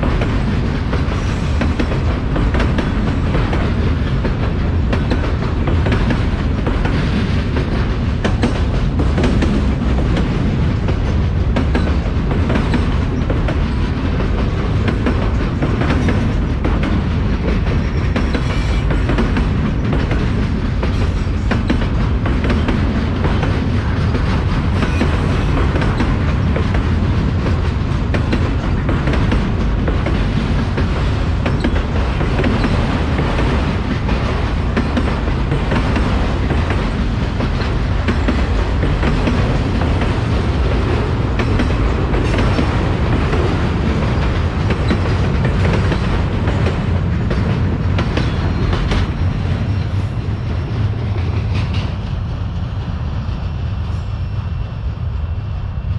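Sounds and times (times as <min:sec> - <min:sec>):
wheels clacking over rail joints: 0:00.0 - 0:52.3
freight cars rumbling on rails: 0:00.0 - 0:55.9.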